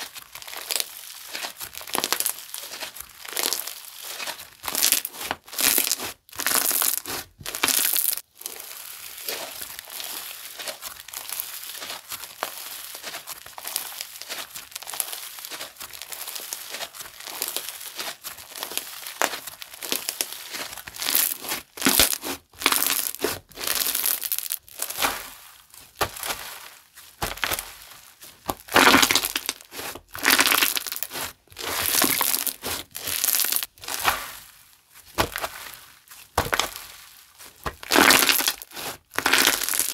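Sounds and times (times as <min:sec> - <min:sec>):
slime crackling when squished: 0:00.3 - 0:25.3, 0:28.5 - 0:34.4, 0:37.7 - 0:39.9.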